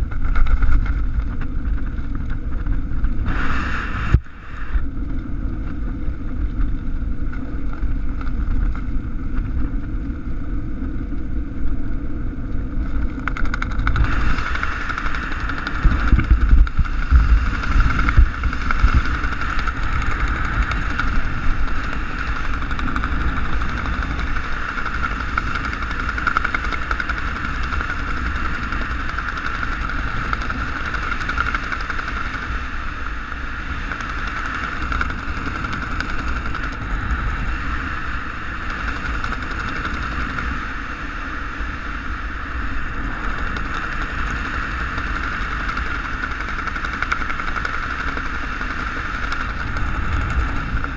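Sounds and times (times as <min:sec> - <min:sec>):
wind rushing over camera: 0:00.0 - 0:50.9.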